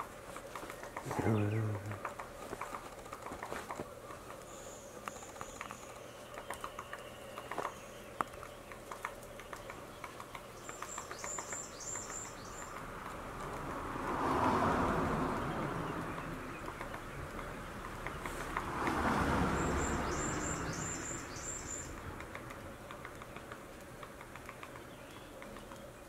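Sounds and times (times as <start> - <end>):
woodpecker tapping on bark: 0.0 - 26.0.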